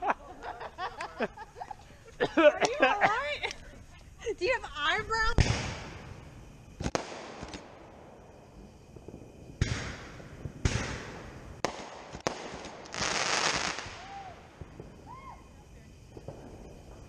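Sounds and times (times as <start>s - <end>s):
firework hiss: 0.0s - 17.0s
fireworks bangs: 0.0s - 17.0s.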